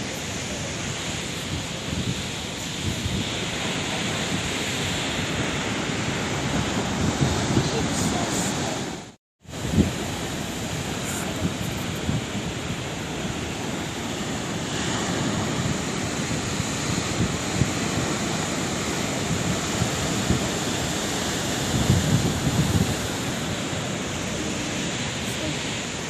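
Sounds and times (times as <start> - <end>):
sea waves washing ashore: 0.0 - 26.0
wind buffeting microphone: 0.0 - 26.0.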